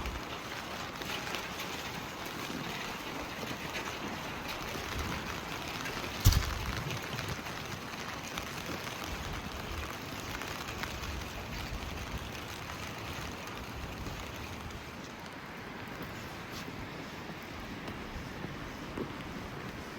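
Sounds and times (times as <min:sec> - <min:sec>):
rain on pavement: 0:00.0 - 0:19.9.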